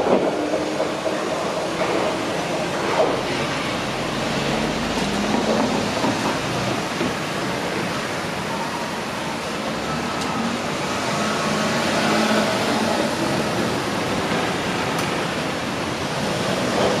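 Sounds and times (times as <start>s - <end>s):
passing vehicles rushing: 2.6s - 17.0s.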